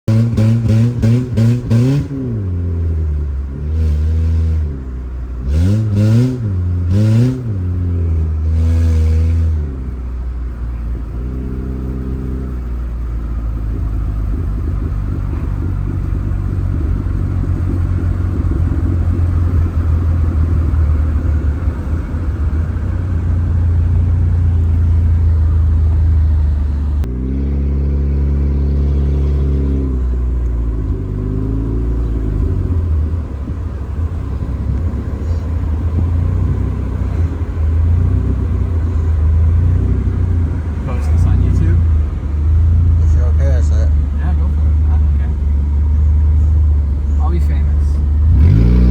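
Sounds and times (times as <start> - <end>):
car engine revving and idling: 0.0 - 48.9.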